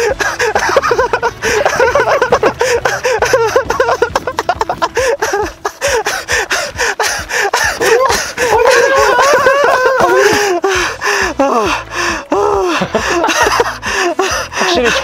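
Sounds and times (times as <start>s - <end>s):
footsteps slapping on asphalt: 0.0s - 15.0s
men panting and laughing: 0.0s - 15.0s.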